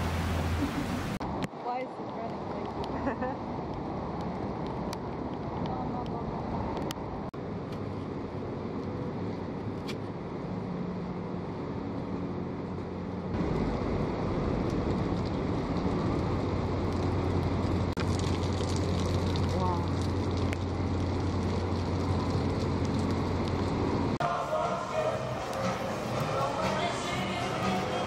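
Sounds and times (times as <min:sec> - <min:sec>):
city street traffic: 0:00.0 - 0:28.0
low engine hum: 0:00.0 - 0:28.0.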